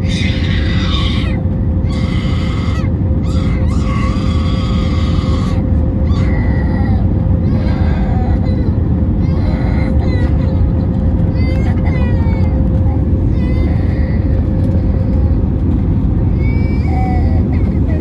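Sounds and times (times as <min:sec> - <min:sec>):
high wailing cries: 0:00.0 - 0:15.4
aircraft cabin engine rumble: 0:00.0 - 0:18.0.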